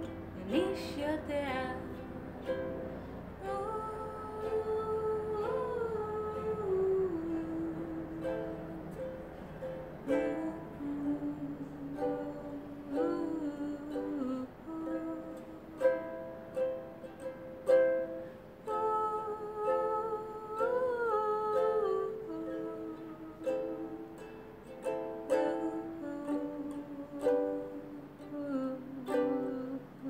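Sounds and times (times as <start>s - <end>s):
person humming: 0.0s - 30.0s
plucked string instrument strumming: 0.0s - 30.0s.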